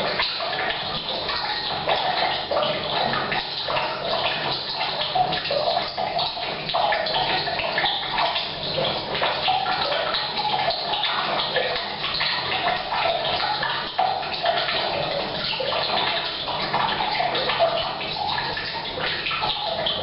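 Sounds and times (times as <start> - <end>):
water pouring into a tank: 0.0 - 20.0.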